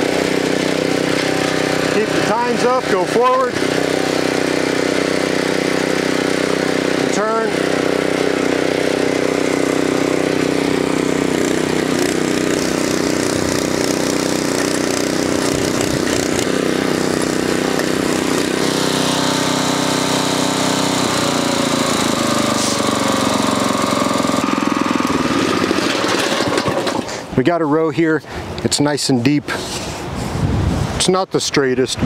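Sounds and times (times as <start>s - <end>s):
tiller engine running: 0.0s - 27.4s.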